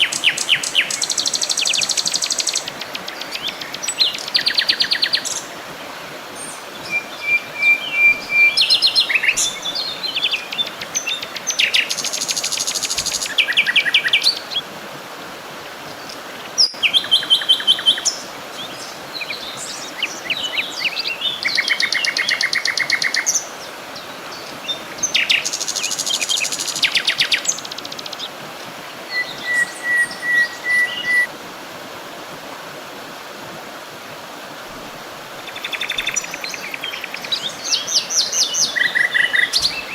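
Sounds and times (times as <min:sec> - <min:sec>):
songbirds singing and chirping: 0:00.0 - 0:14.7, 0:15.6 - 0:31.3, 0:35.3 - 0:39.9
background hiss: 0:00.0 - 0:39.9.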